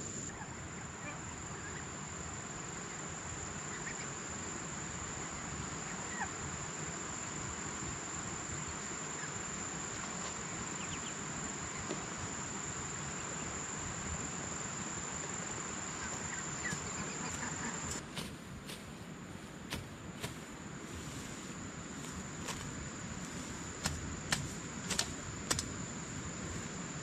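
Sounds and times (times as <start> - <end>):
background hiss: 0.0 - 27.0.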